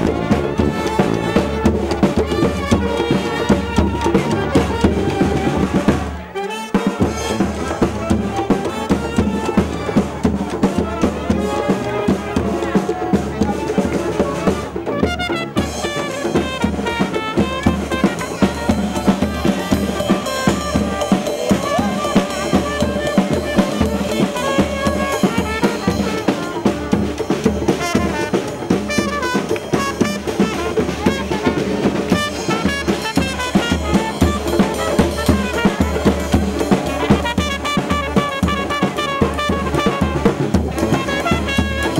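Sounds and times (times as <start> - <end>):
bass drum and snare beat: 0.0 - 41.9
brass band playing: 0.0 - 41.9.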